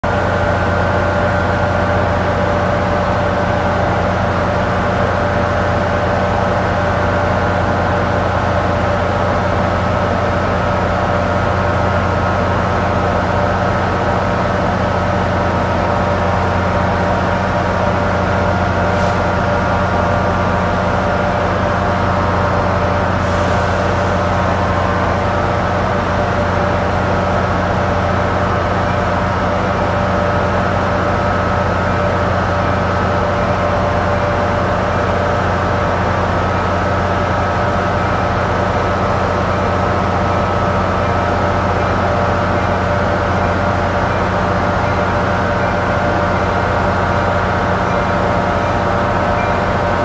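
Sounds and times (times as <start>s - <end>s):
train idling drone: 0.0s - 50.0s.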